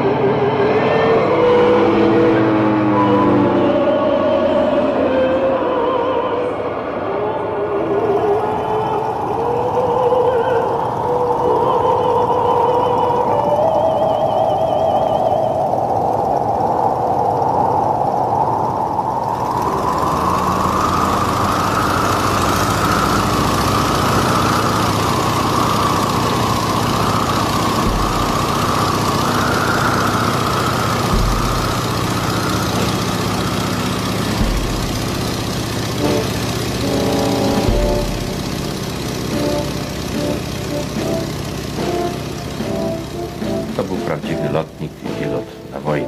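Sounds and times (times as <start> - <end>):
engine droning: 0.0 - 46.0.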